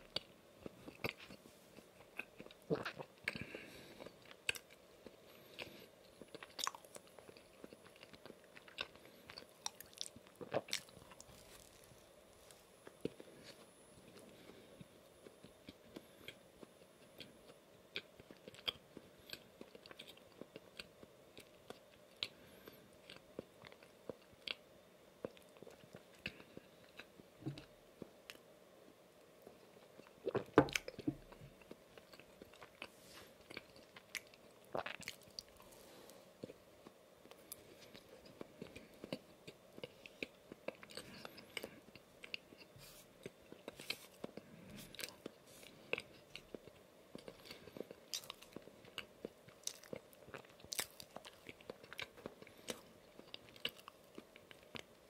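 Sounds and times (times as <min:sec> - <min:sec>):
close chewing: 0:00.0 - 0:24.6, 0:29.4 - 0:55.0.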